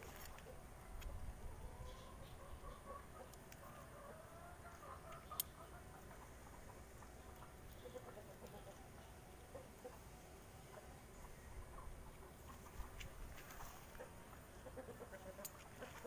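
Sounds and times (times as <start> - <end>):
faint bird calls: 0.2 - 16.0.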